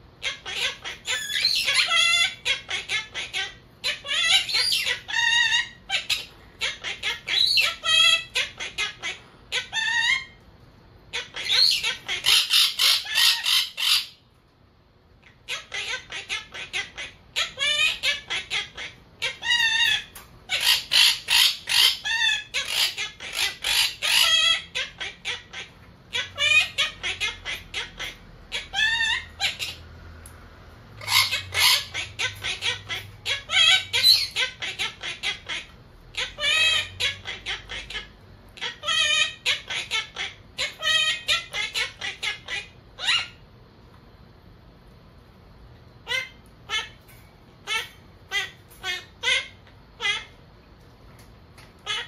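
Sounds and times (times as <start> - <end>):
parakeet chattering and squawking: 0.1 - 14.4, 15.1 - 43.6, 44.4 - 52.0.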